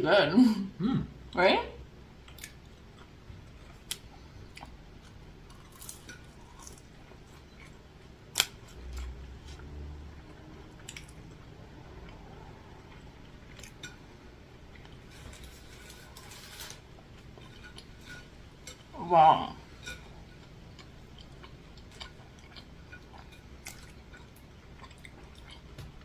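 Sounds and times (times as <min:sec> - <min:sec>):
person chewing food: 0:02.2 - 0:18.9, 0:19.6 - 0:26.0.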